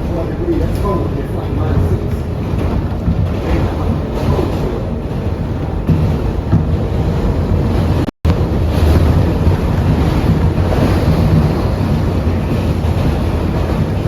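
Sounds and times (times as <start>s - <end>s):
low hum: 0.0s - 14.0s
subway car wheels rumbling on rail: 0.0s - 14.0s.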